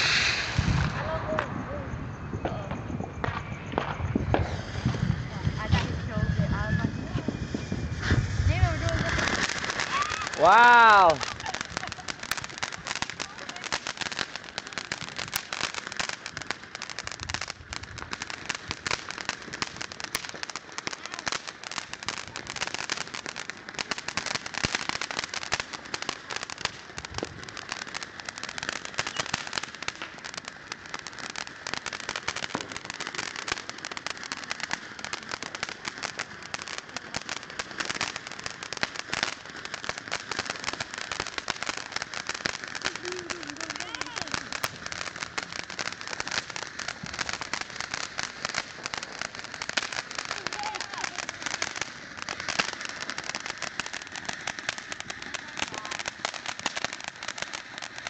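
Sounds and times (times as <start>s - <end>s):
fireworks hissing and crackling: 0.0s - 58.0s.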